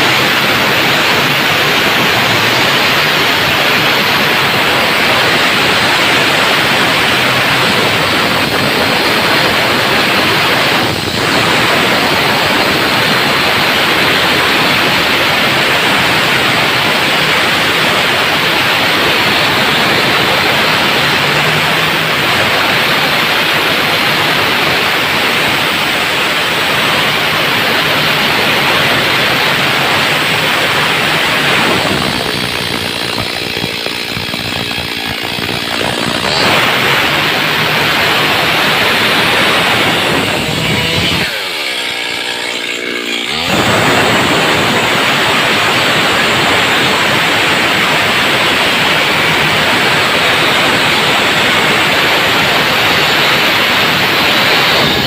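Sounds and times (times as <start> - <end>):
chainsaw running at high revs: 0.0 - 55.0.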